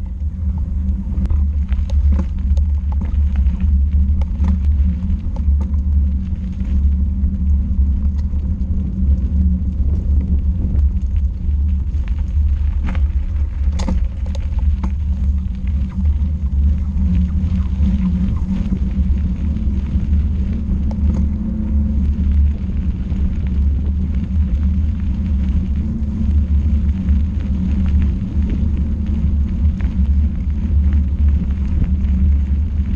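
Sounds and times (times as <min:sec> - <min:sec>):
vehicle rumble on dirt track: 0:00.0 - 0:32.9.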